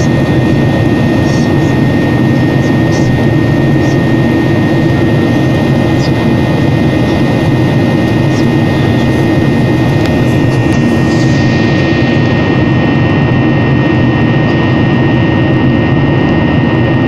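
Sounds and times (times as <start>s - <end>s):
high engine whine: 0.0s - 17.0s
jet engine rumble: 0.0s - 17.0s.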